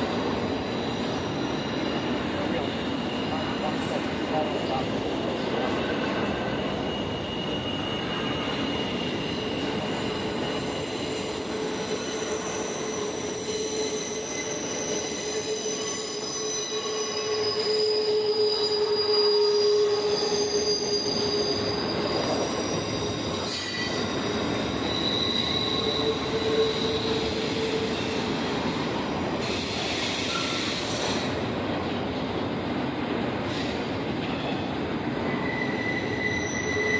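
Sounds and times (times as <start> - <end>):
train wheels squealing on rails: 0.0 - 36.9.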